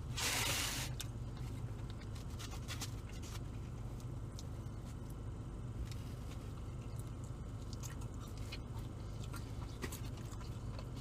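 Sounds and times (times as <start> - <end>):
person chewing: 0.2 - 11.0.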